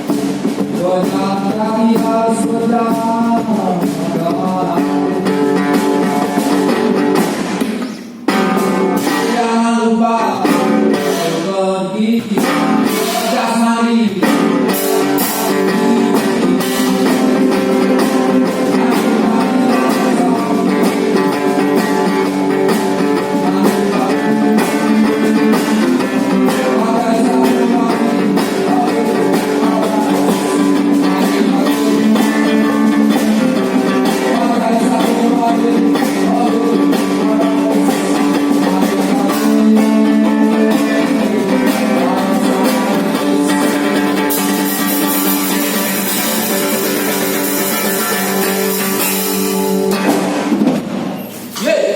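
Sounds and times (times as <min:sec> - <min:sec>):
person singing: 0:00.0 - 0:07.2, 0:07.8 - 0:50.2
band with strummed guitar: 0:00.0 - 0:51.9.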